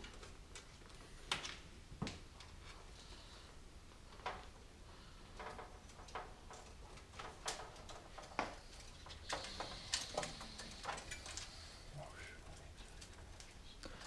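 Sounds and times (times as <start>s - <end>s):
computer parts clicking and rustling: 0.0s - 2.8s, 4.1s - 14.0s
faint low hum: 0.0s - 14.0s.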